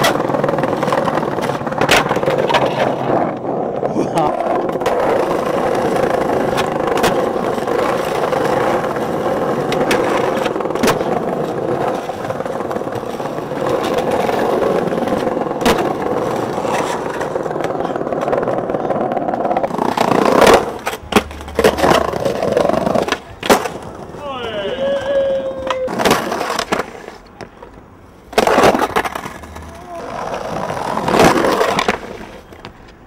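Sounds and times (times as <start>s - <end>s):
skateboard hitting ground: 0.0s - 33.0s
skateboard wheels rolling on paving: 0.0s - 33.0s.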